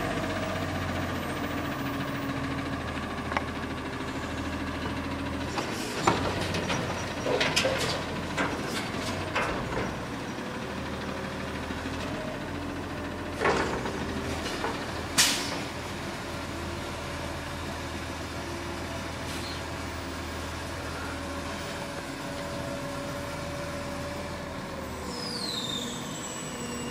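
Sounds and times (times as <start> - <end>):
garbage truck engine running: 0.0 - 26.9.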